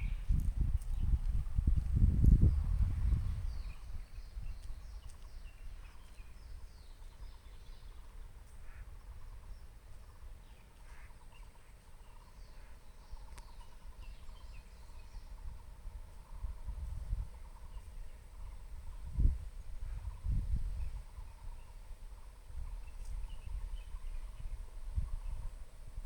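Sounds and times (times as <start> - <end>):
birds chirping: 2.2 - 25.6.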